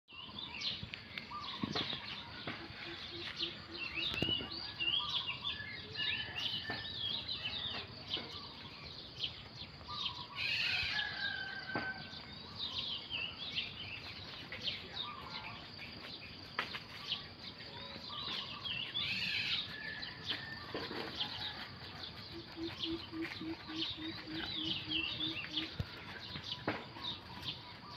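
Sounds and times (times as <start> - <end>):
birds chirping: 0.1 - 27.9.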